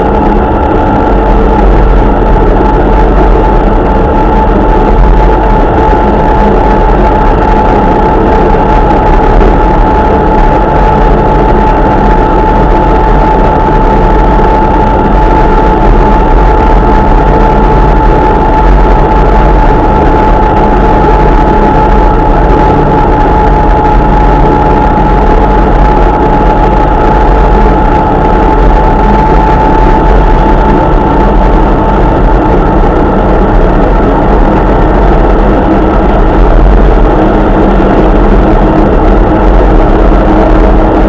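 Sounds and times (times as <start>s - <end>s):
high whine: 0.0s - 41.0s
vehicle engine drone: 0.0s - 41.0s.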